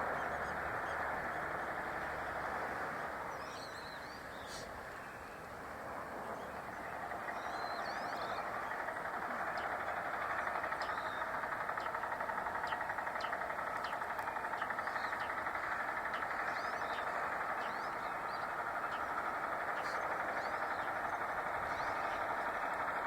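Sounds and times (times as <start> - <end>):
steady pulsing mechanical drone: 0.0 - 23.0.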